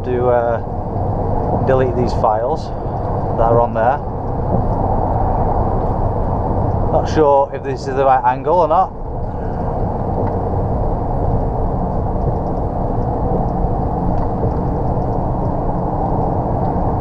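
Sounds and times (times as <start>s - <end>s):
lorry diesel engine rumble: 0.0s - 17.0s
road noise: 0.0s - 17.0s.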